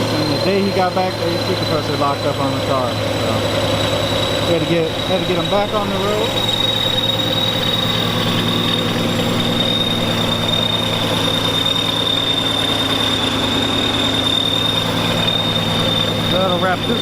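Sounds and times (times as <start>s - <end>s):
car engine idling: 0.0s - 17.0s
high-pitched whine: 0.0s - 17.0s.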